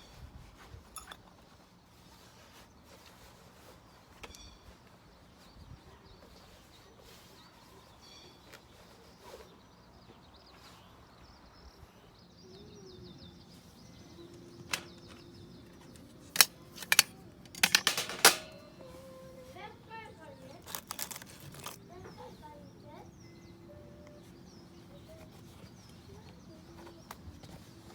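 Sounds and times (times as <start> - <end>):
faint high chirping: 0.0 - 17.2, 21.6 - 27.9.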